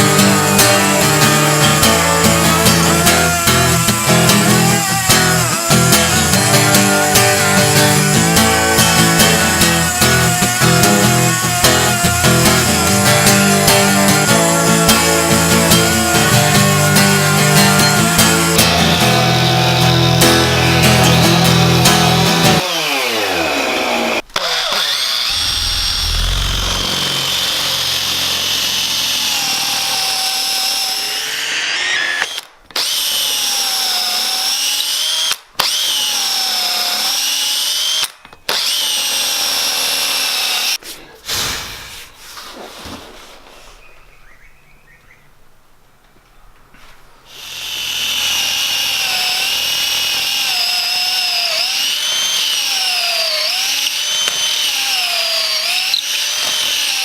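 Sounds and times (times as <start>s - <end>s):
chainsaw cutting wood: 0.0s - 40.8s, 47.3s - 57.0s.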